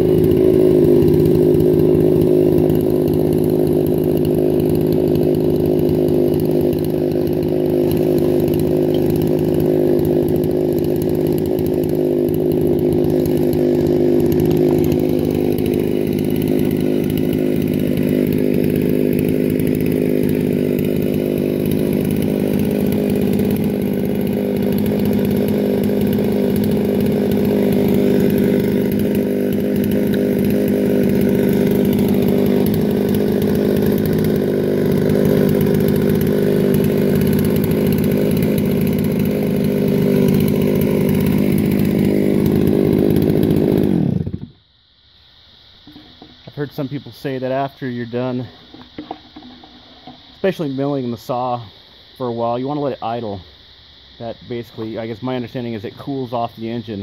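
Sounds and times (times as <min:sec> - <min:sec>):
chainsaw idling: 0:00.0 - 0:44.6, 0:45.8 - 0:57.0.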